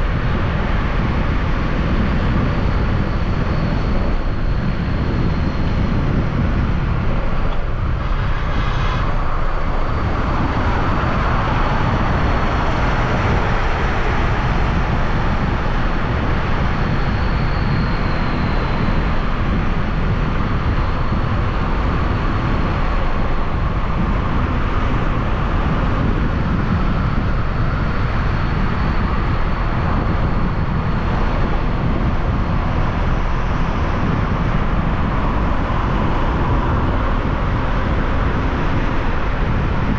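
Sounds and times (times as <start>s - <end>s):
motorbike road noise: 0.0s - 39.9s
wind rushing over microphone: 0.0s - 39.9s.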